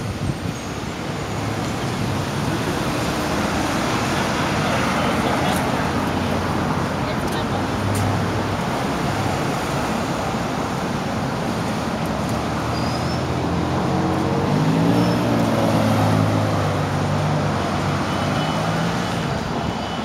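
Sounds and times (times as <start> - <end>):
idling buses and traffic rumble: 0.0 - 20.0.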